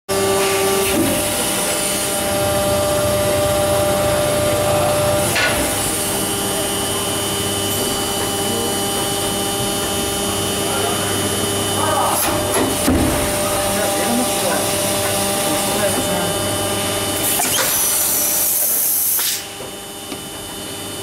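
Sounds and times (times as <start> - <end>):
injection molding machine hum: 0.1 - 21.0.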